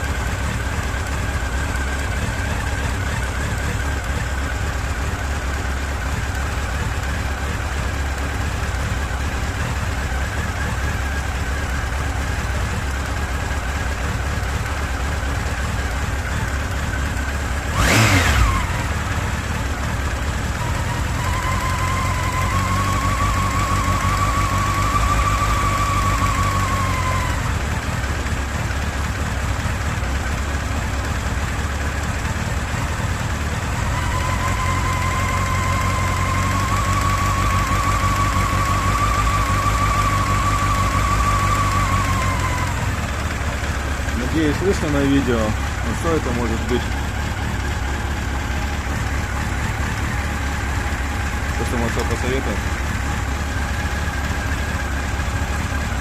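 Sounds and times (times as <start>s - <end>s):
engine knocking: 0.0s - 56.0s
motorcycle engine idling: 0.0s - 56.0s.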